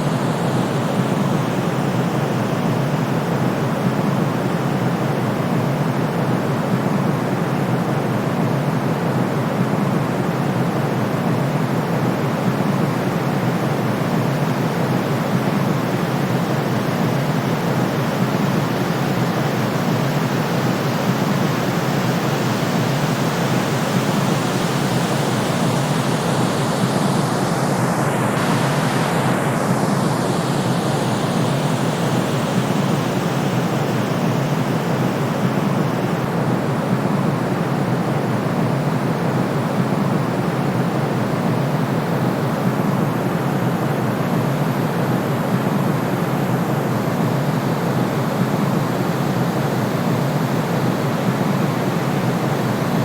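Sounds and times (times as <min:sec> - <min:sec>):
continuous pink noise hiss: 0:00.0 - 0:53.0.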